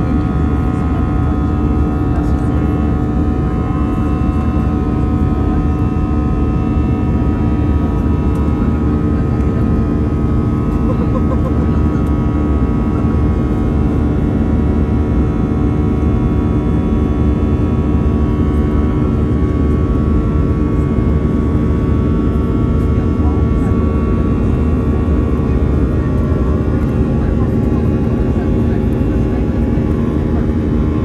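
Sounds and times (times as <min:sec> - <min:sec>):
jet engines low rumble: 0:00.0 - 0:31.0
steady engine tones: 0:00.0 - 0:31.0.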